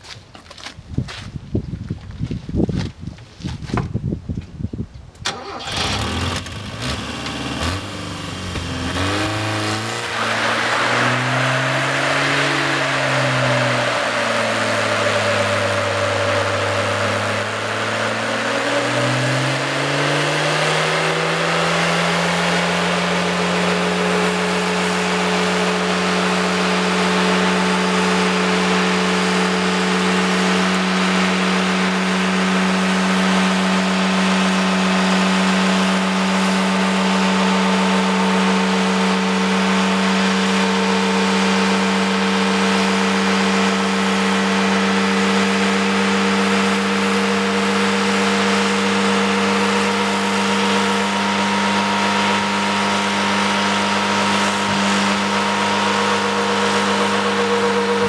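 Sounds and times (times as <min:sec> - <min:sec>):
car engine revving hard: 0:05.3 - 0:58.0.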